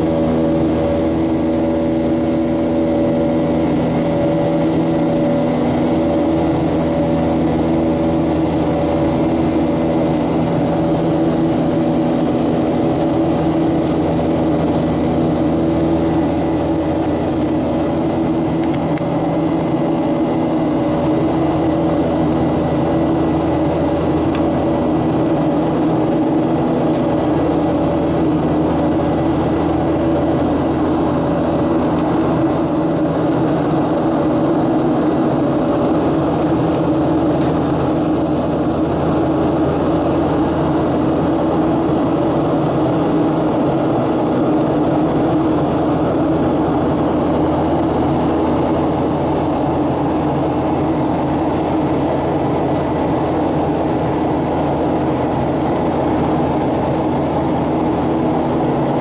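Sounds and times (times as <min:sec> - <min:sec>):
airliner engines droning: 0:00.0 - 0:59.0.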